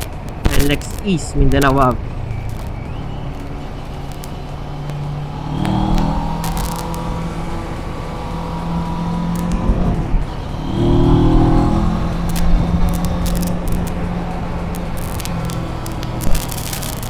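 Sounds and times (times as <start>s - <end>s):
motorcycle engine revving: 0.0s - 17.0s
rushing wind noise: 0.0s - 17.0s.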